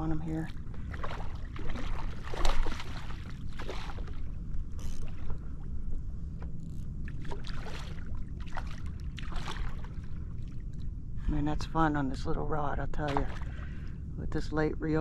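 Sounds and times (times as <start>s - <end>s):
water splashing and sloshing: 0.0s - 14.1s
steady low rumble: 0.0s - 15.0s.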